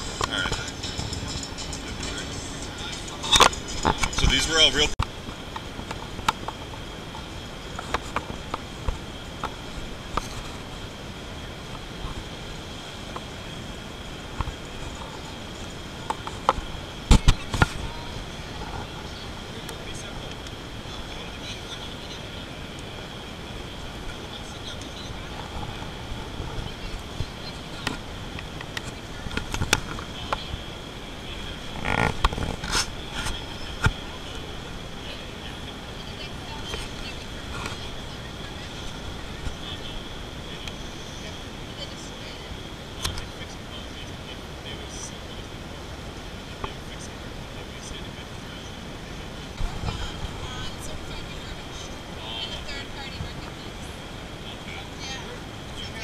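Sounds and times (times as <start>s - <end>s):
distant crowd chatter: 0.0s - 56.0s
steady hum: 0.0s - 56.0s.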